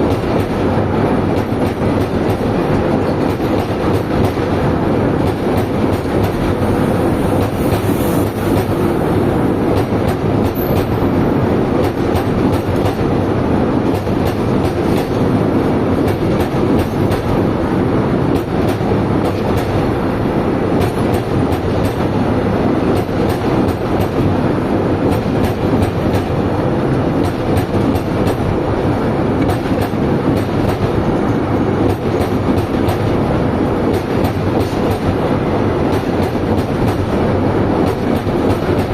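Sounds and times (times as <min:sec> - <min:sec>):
clickety-clack over rail joints: 0:00.0 - 0:38.9
train wheels rumbling on rail: 0:00.0 - 0:38.9.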